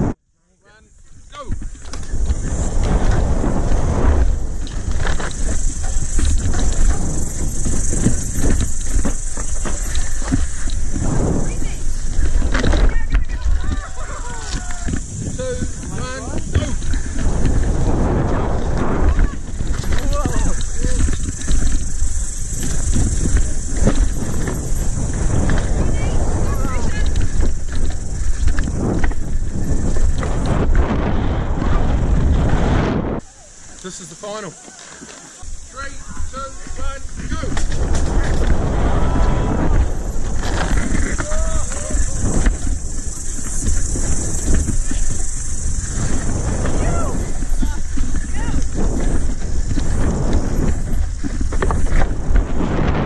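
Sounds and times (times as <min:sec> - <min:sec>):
wind buffeting microphone: 0:00.0 - 0:00.2, 0:00.8 - 0:34.4, 0:35.1 - 0:53.0
bike frame and chain clattering: 0:01.6 - 0:31.0, 0:34.6 - 0:52.8.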